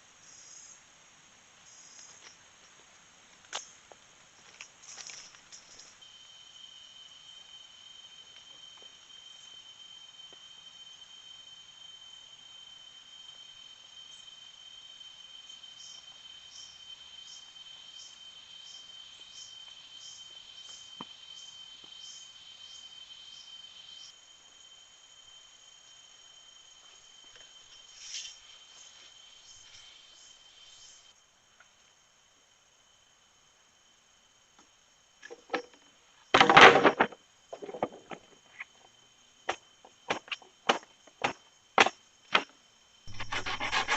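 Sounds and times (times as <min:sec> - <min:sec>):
insect chirps: 0:00.0 - 0:43.9
insects trilling: 0:00.0 - 0:43.9.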